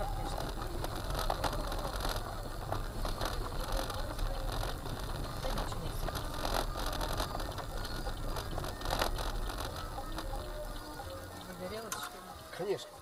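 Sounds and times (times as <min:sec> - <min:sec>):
interior clicking and rattling: 0:00.0 - 0:12.1
road and engine rumble: 0:00.0 - 0:13.0.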